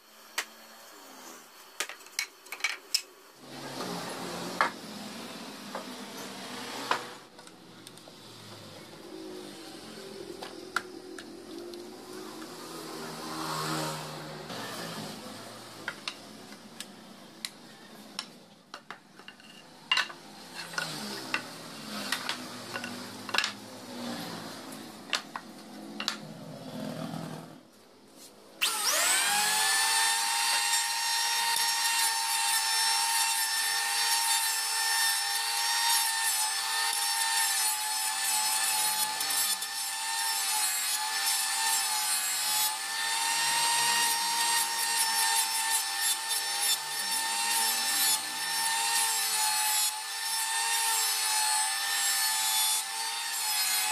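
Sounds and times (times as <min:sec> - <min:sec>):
electric planer whining: 0:03.4 - 0:16.6, 0:19.9 - 0:27.6, 0:28.6 - 0:53.9.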